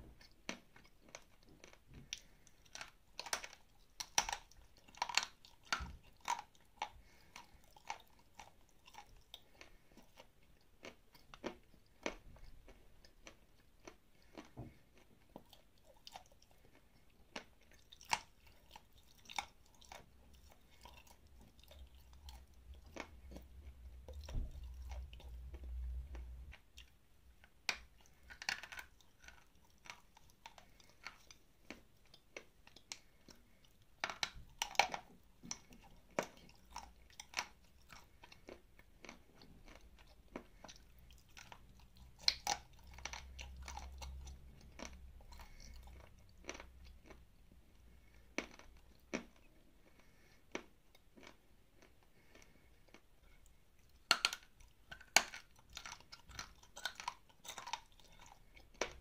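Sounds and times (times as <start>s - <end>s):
crunchy chewing: 0.1s - 59.0s.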